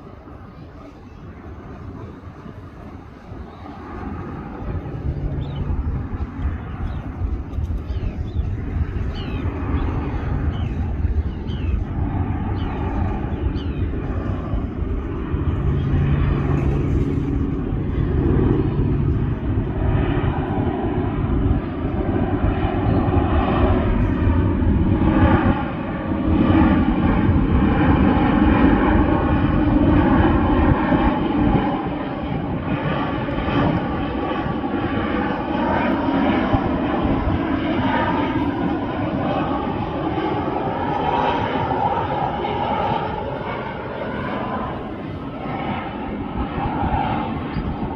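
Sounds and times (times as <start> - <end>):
airplane engines running: 0.0 - 47.9.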